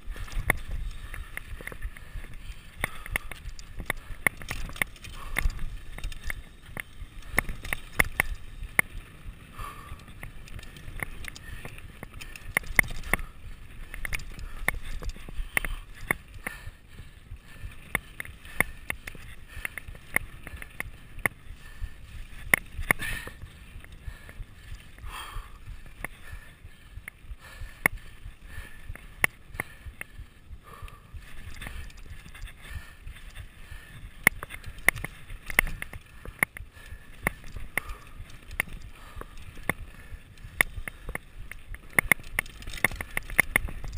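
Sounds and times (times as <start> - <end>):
bike chain and frame rattling: 0.0 - 43.9.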